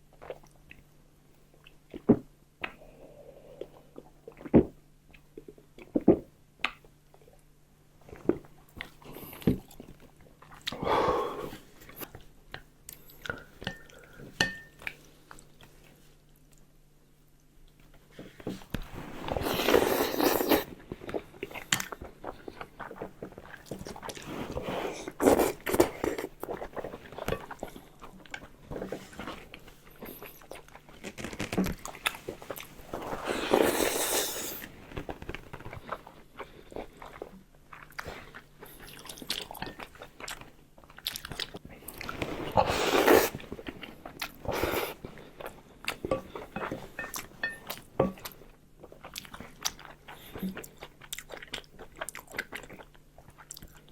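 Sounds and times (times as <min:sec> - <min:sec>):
person chewing food: 0:08.0 - 0:16.7, 0:17.7 - 0:53.9.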